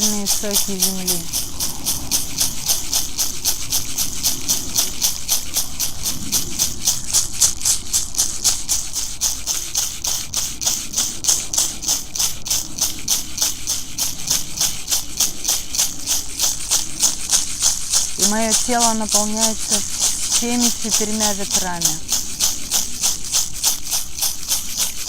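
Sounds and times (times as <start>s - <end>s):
hand rattle shaking: 0.0s - 25.0s.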